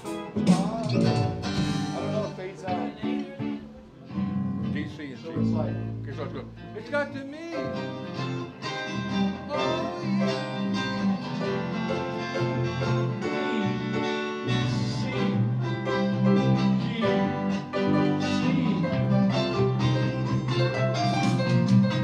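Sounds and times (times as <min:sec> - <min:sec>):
electric guitars: 0:00.0 - 0:22.0
keyboard: 0:00.0 - 0:22.0.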